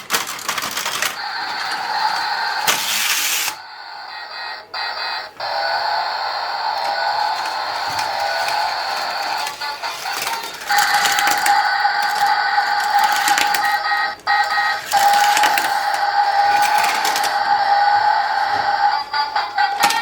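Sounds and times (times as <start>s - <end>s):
tinny toy electronic tone: 1.2s - 20.0s.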